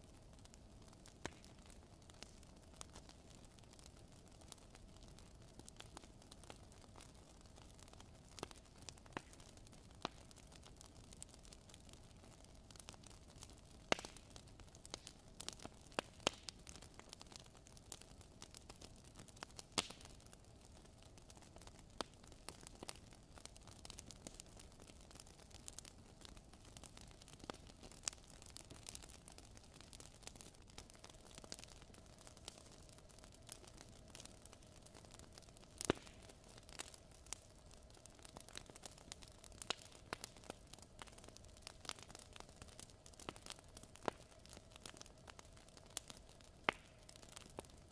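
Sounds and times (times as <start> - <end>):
faint steady hiss: 0.0 - 47.9
wood fire crackling: 0.0 - 47.9.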